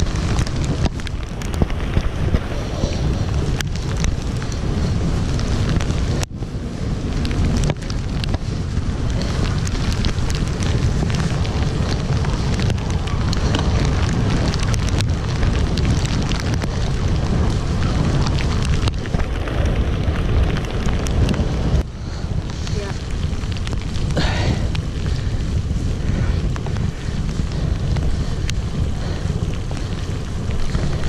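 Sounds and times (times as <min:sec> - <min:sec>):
sharp ticks of rain: 0:00.0 - 0:31.0
wind rumbling on microphone: 0:00.0 - 0:31.0.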